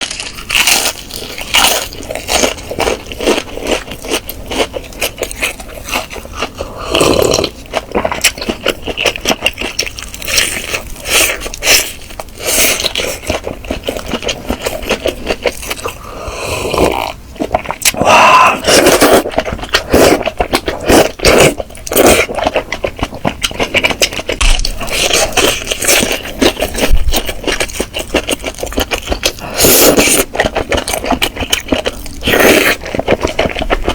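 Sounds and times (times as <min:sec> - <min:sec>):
person chewing crunchy chicken: 0:00.0 - 0:33.9.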